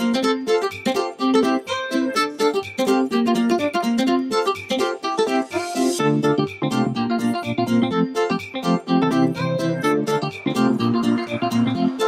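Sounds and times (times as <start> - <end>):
keyboard music over a beat: 0.0 - 12.0.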